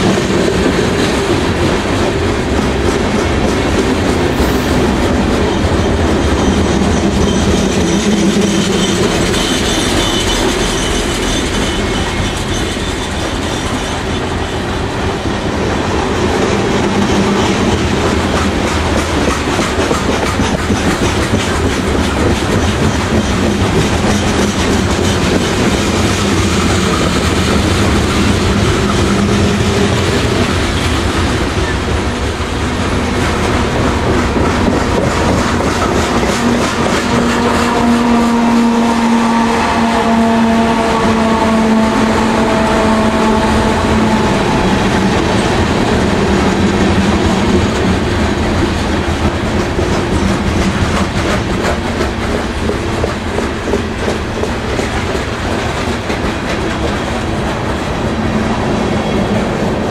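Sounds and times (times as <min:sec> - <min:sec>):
clickety-clack over track joints: 0:00.0 - 0:59.9
train wheels rumbling on rails: 0:00.0 - 0:59.9.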